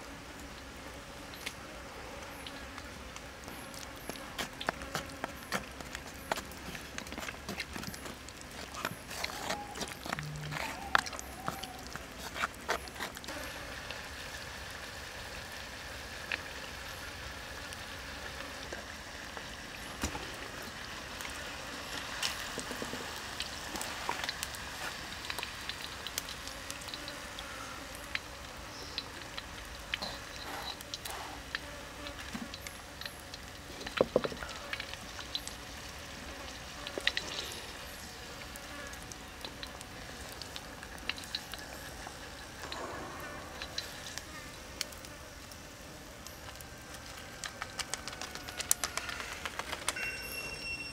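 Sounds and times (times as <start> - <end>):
oil sizzling and crackling: 2.2 - 50.3.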